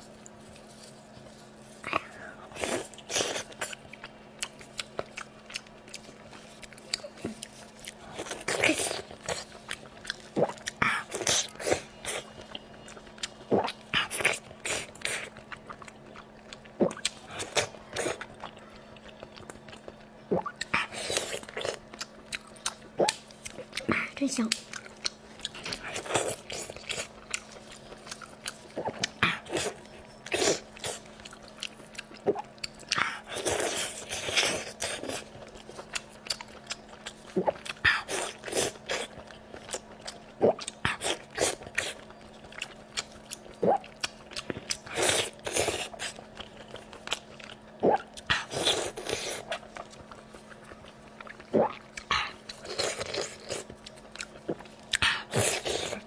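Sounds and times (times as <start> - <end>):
faint steady hum: 0.0 - 56.0
chewing and mouth smacks: 1.2 - 56.0.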